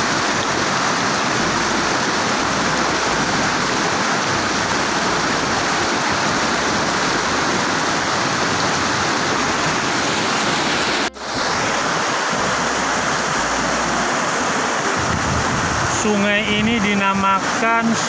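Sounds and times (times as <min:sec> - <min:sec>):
stream rushing over boulders: 0:00.0 - 0:18.0.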